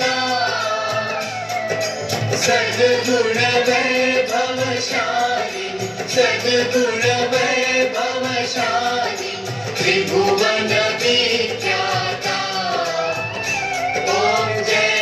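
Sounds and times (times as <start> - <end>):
song with several voices singing: 0.0 - 15.0.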